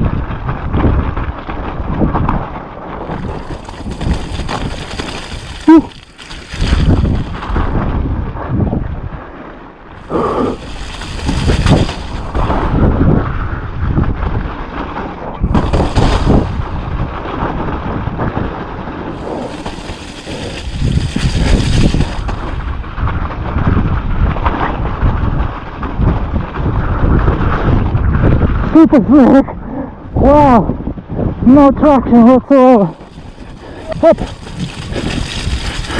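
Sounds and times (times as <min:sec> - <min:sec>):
mountain bike rattling and thudding: 0:00.0 - 0:28.7, 0:32.9 - 0:35.9
wind buffeting microphone: 0:00.0 - 0:35.9.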